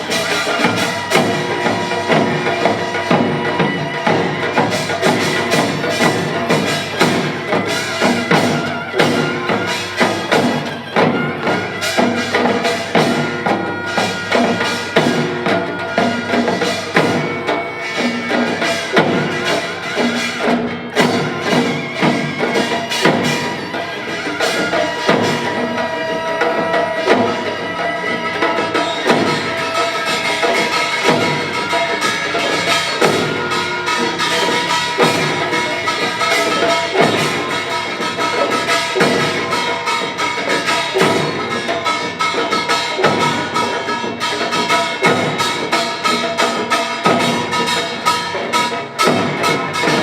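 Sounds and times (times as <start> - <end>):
rapid drum strokes: 0.0 - 50.0
ringing metal gongs: 0.0 - 50.0.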